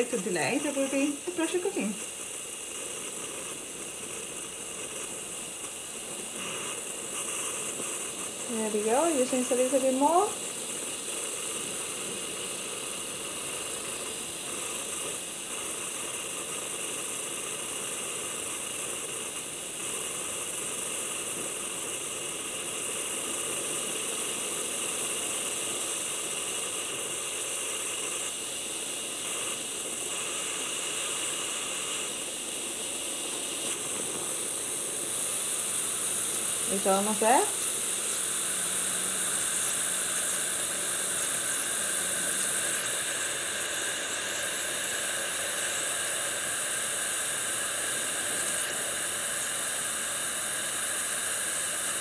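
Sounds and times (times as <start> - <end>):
steam hissing from pressure cooker: 0.0 - 52.0.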